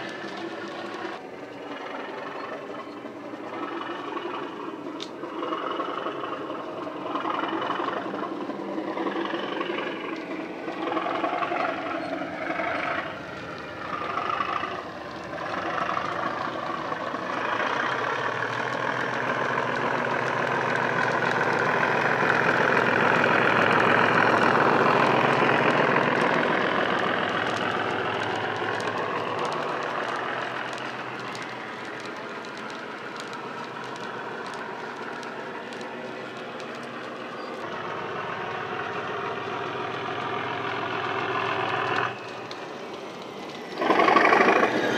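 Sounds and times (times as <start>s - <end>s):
model diesel locomotive engine: 0.0s - 44.9s.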